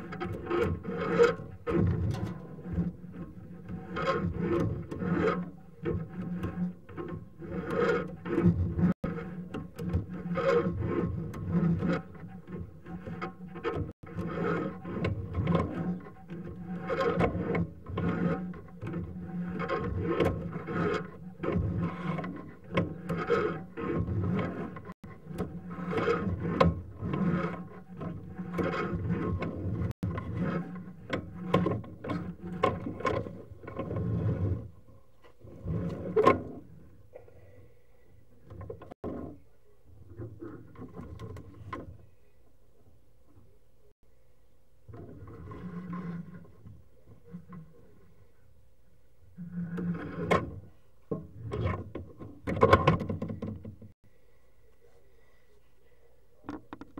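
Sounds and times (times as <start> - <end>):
cable rubbing and scraping: 0.0 - 37.2, 38.3 - 42.0, 44.9 - 48.5, 49.2 - 54.0.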